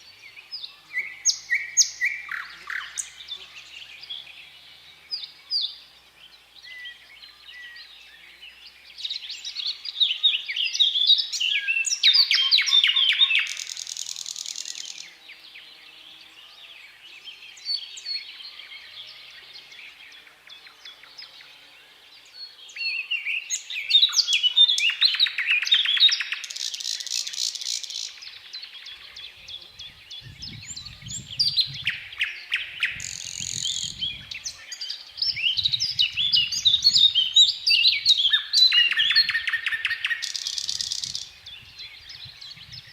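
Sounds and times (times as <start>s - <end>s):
nightingale singing: 0.0s - 15.8s, 16.4s - 42.9s.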